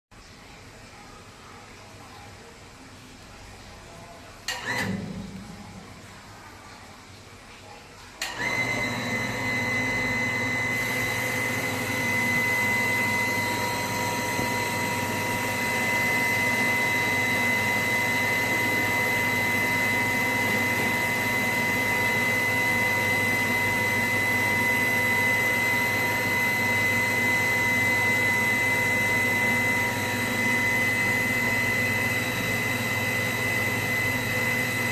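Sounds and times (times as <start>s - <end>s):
pump motor whining: 4.5s - 5.8s, 8.2s - 34.9s.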